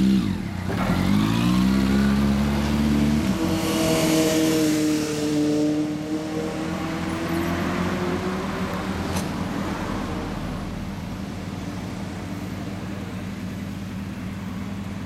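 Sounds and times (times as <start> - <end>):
motorcycle accelerating: 0.0 - 15.0.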